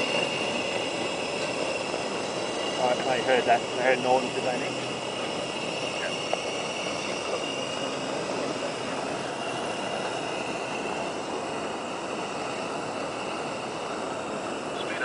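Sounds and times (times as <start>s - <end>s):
propane burner rushing: 0.0s - 15.0s.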